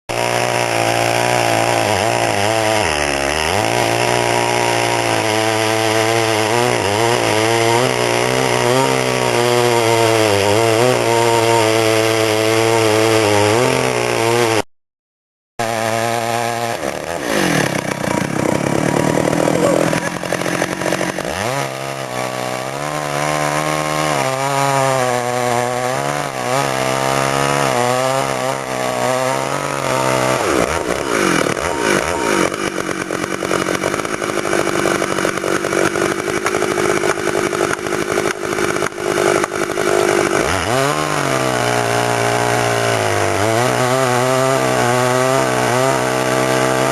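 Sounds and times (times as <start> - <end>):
chainsaw cutting wood: 0.1 - 14.7, 15.6 - 46.9.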